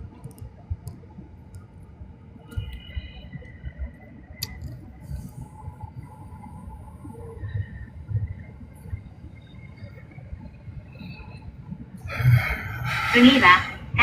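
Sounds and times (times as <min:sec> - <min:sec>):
train carriage rumble: 0:02.3 - 0:14.0.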